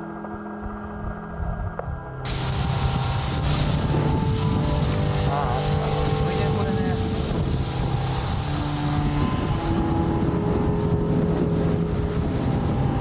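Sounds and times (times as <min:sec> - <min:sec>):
motorcycle engine drone: 0:00.0 - 0:13.0
wind noise on microphone: 0:00.0 - 0:13.0.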